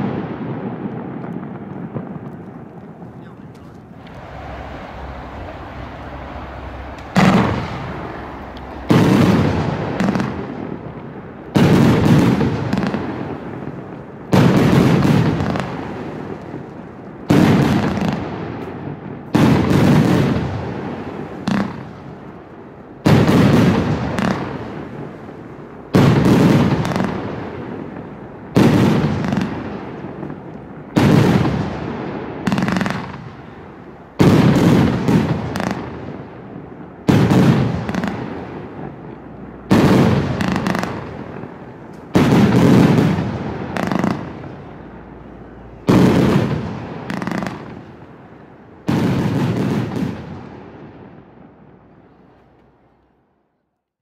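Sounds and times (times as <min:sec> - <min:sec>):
fireworks firing in salvos: 0:00.0 - 0:53.1.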